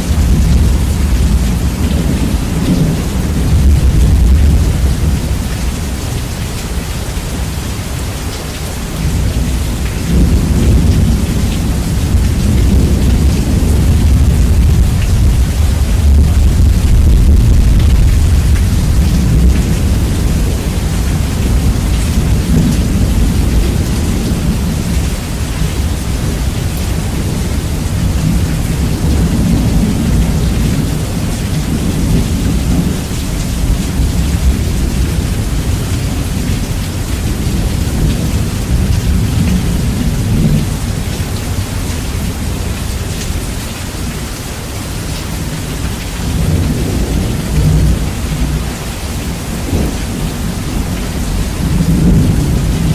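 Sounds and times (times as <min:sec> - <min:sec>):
rolling thunder: 0:00.0 - 0:06.2, 0:09.0 - 0:43.4, 0:46.2 - 0:52.9
steady rain: 0:00.0 - 0:52.9.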